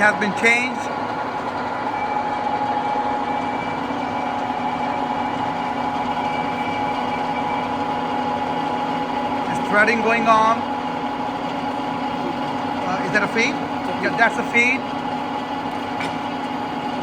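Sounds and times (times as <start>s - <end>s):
gear whine: 0.0s - 17.0s
lathe mechanical hum: 0.0s - 17.0s.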